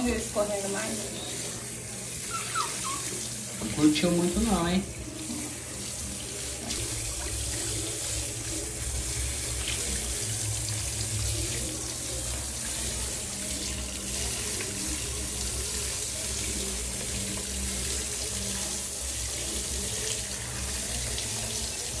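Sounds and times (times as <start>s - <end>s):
water splashing on tiled floor: 0.0s - 22.0s.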